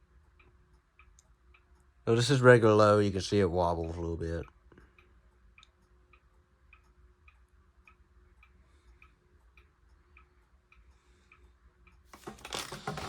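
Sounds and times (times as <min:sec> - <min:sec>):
mechanical clocks ticking: 0:00.0 - 0:13.0.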